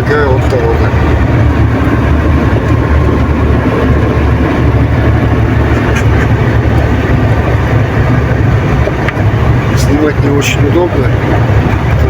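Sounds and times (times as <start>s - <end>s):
truck engine rumble in cab: 0.0s - 12.0s.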